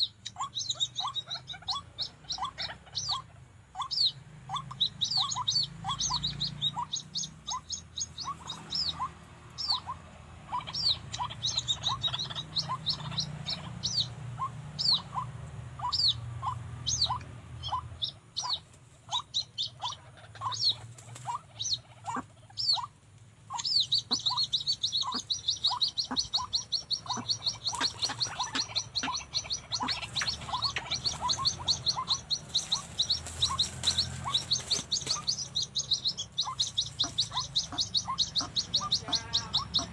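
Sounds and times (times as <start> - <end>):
high bird chirping: 0.0 - 39.9
waterhens calling: 0.0 - 39.9.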